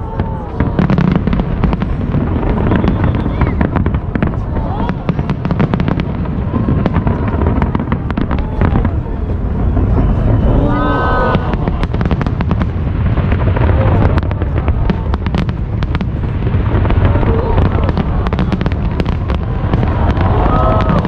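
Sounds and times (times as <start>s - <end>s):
firework cracks: 0.0s - 21.0s
low rumble of firework booms: 0.0s - 21.0s.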